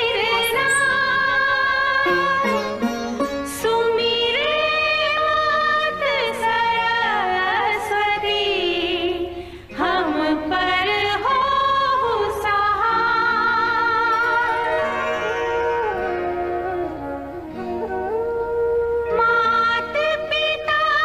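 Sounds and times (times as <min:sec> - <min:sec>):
instrumental accompaniment: 0:00.0 - 0:07.5, 0:09.7 - 0:21.0.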